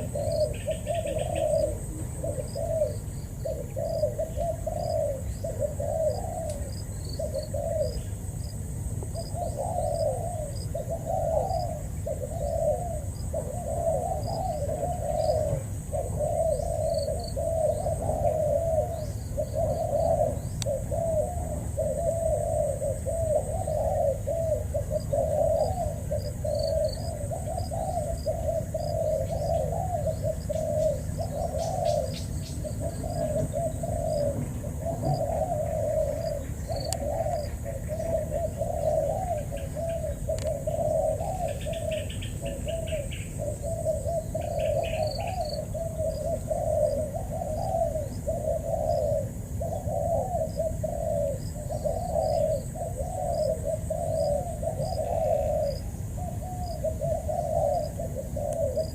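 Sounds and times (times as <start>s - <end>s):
doves cooing: 0.0s - 58.9s.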